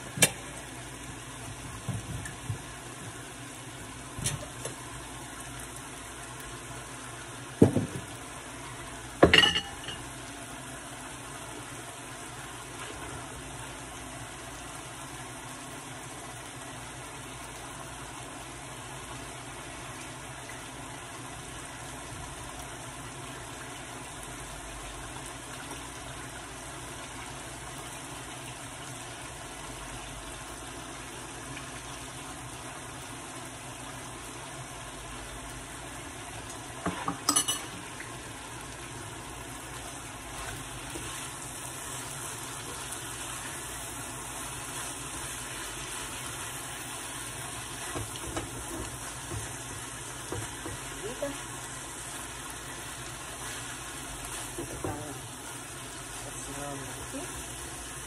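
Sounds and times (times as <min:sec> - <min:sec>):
food sizzling in skillets: 0:00.0 - 0:58.0.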